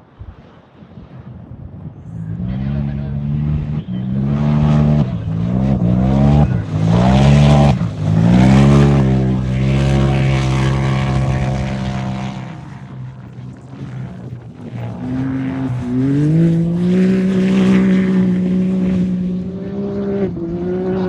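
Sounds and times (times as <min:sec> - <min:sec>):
low engine note: 0:02.0 - 0:21.0
race vehicle engine accelerating: 0:02.0 - 0:21.0.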